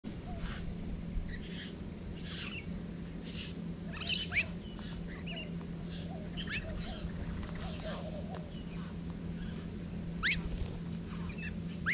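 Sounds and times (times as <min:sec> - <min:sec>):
birds chirping: 0:00.1 - 0:11.9
high-pitched insect drone: 0:00.1 - 0:11.9.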